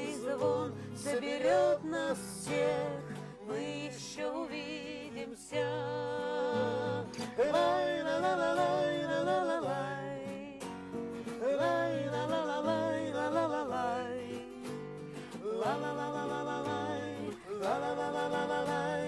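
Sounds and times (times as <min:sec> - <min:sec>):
person singing: 0:00.0 - 0:10.6, 0:11.3 - 0:14.7, 0:15.3 - 0:19.0
acoustic guitar: 0:00.0 - 0:19.0.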